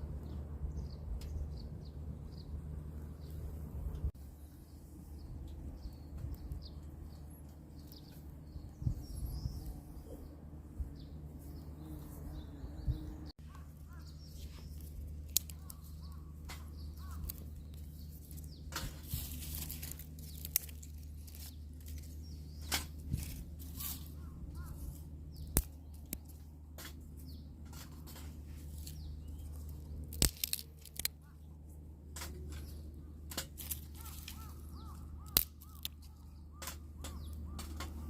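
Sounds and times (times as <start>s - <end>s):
small birds chirping: 0.0s - 38.0s
steady low rumble: 0.0s - 38.0s.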